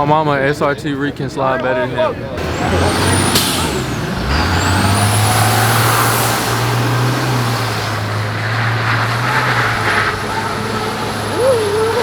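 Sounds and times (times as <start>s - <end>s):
vehicle engine droning: 2.4s - 12.0s.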